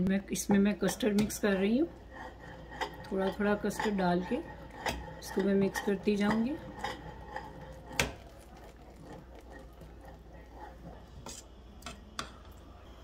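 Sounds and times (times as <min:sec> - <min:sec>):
metal spoon stirring liquid: 0:00.3 - 0:12.7.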